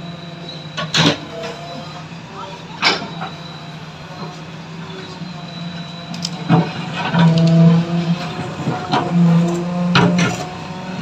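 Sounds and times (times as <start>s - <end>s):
backhoe diesel engine and hydraulics: 0.0s - 11.0s.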